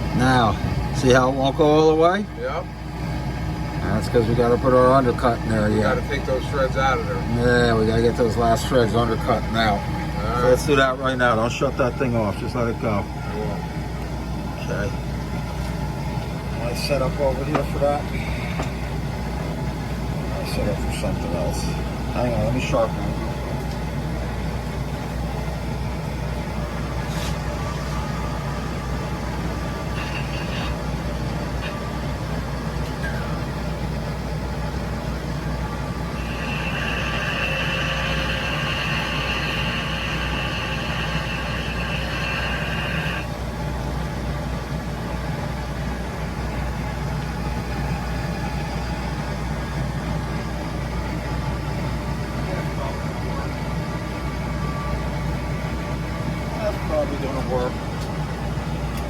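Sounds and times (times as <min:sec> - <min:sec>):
metal lathe motor hum: 0:00.0 - 0:52.3
high steady whine: 0:00.0 - 0:59.0.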